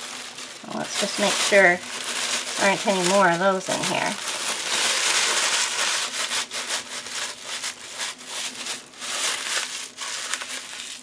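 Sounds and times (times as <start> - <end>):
paper packing rustling: 0.0 - 11.0.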